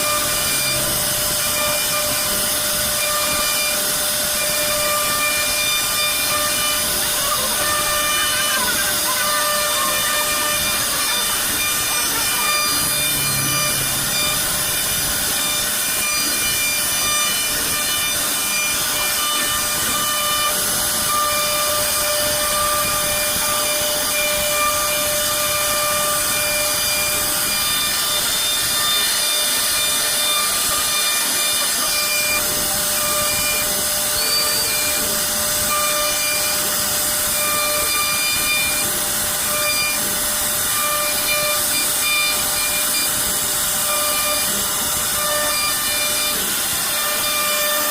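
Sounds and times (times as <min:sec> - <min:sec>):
cnc router spindle whine: 0:00.0 - 0:47.9
hiss of wood cutting: 0:00.0 - 0:47.9.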